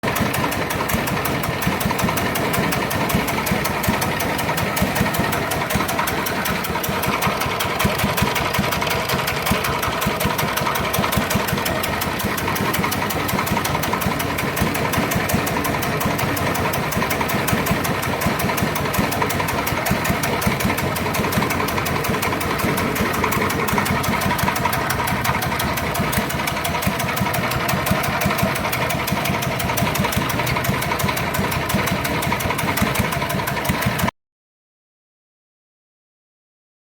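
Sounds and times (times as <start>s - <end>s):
small diesel engine running: 0.0s - 34.2s.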